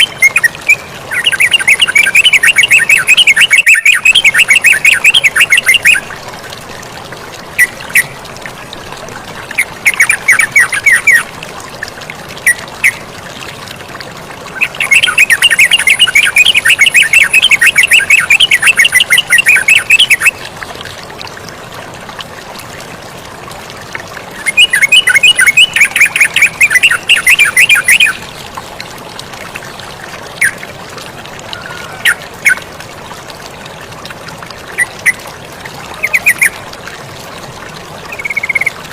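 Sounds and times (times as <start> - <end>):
bird singing bubbly notes: 0.0 - 6.2, 6.8 - 8.3, 9.4 - 13.6, 14.4 - 20.6, 24.2 - 28.8, 29.8 - 38.9
flowing water rushing: 0.0 - 38.9.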